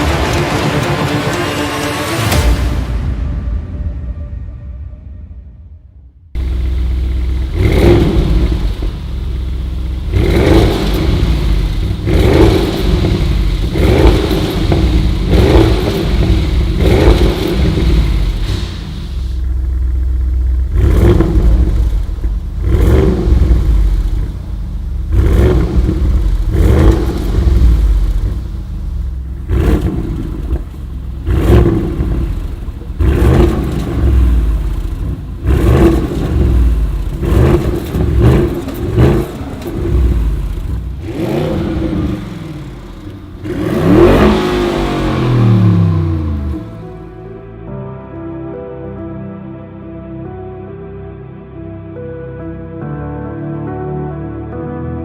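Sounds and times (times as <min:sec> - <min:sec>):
car engine idling and revving: 0:00.0 - 0:03.3, 0:06.3 - 0:47.5.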